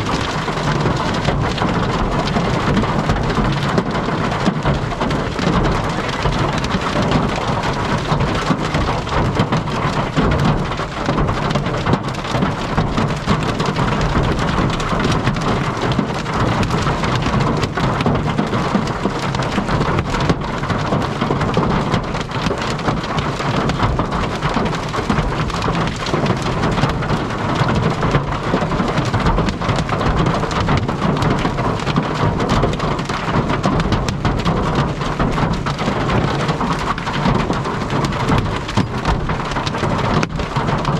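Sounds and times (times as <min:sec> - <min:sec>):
heavy rain beating on vehicle: 0:00.0 - 0:40.9.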